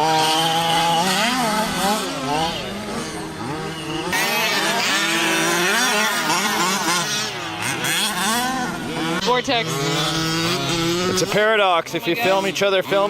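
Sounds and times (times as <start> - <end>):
remote-control car motors revving: 0.0 - 13.0.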